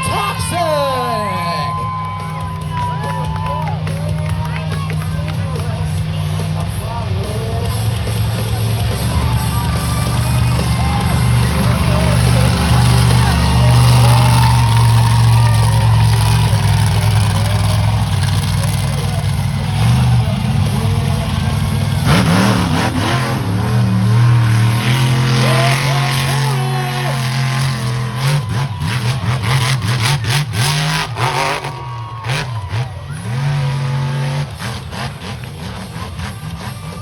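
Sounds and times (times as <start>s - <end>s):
engine crackles: 0.0s - 37.0s
truck engine revving: 0.0s - 37.0s.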